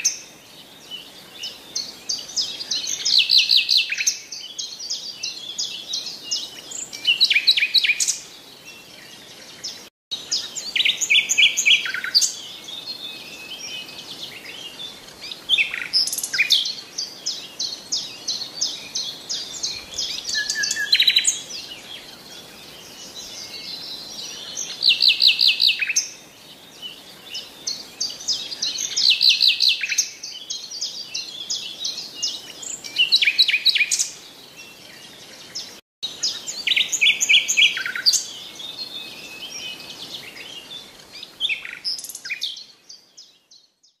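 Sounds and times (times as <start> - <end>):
faint steady hiss: 0.0 - 43.6.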